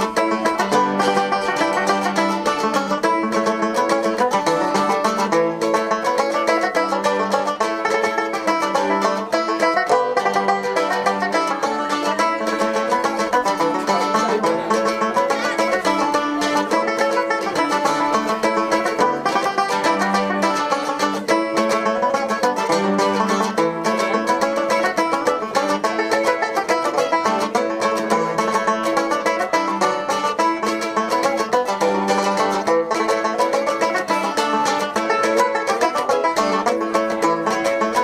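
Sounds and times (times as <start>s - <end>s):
fast plucked string picking: 0.0s - 38.0s
low accompaniment: 0.0s - 38.0s.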